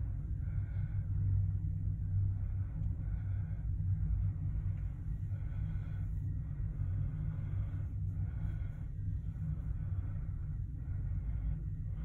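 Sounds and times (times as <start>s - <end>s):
faint higher pulsing sound: 0.0s - 12.0s.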